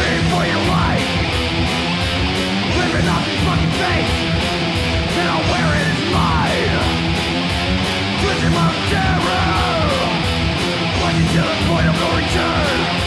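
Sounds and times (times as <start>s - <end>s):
distorted electric guitars: 0.0s - 13.0s
fast drum beat: 0.0s - 13.0s
sliding lead guitar notes: 0.0s - 13.0s.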